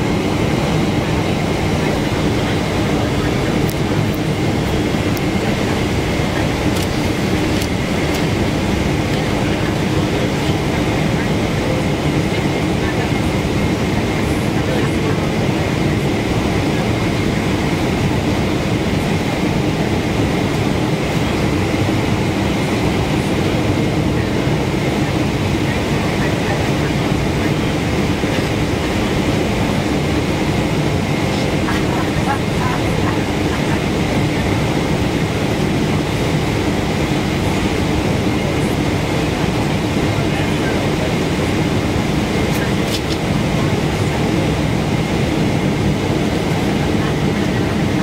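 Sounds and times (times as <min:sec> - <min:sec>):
jet engine and airflow roar: 0:00.0 - 0:48.0.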